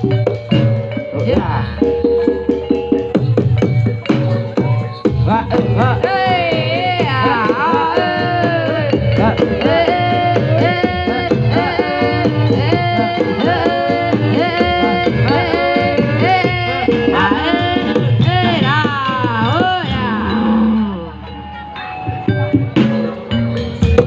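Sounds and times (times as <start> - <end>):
hand drums beating: 0.0 - 20.6, 22.0 - 24.0
high wavering melody: 0.0 - 24.0.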